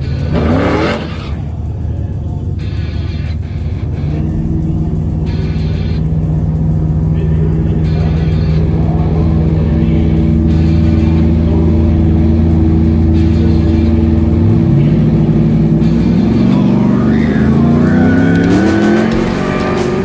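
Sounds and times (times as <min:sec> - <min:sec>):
background music: 0:00.0 - 0:20.0
truck engines idling and revving: 0:00.0 - 0:20.0.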